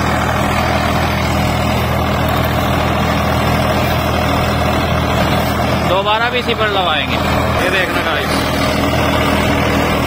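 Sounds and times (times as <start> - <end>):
rotavator working soil: 0.0 - 10.0
tractor diesel engine running: 0.0 - 10.0.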